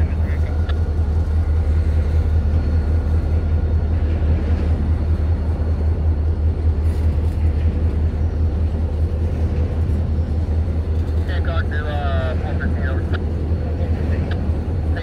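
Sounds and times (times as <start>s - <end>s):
train flatcars rolling on track: 0.0s - 15.0s.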